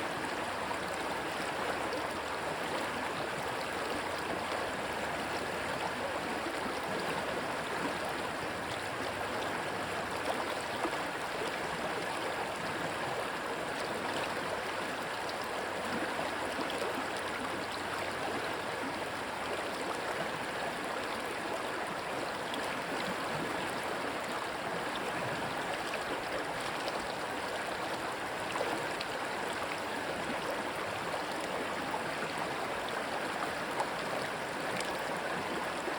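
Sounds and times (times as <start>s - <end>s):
stream water rushing: 0.0s - 35.9s
water splashes and gurgles: 0.1s - 35.9s.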